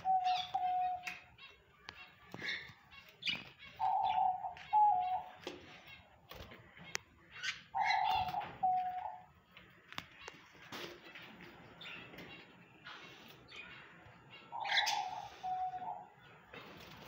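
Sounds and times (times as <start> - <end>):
caged birds chirping and chattering: 0.0 - 17.0.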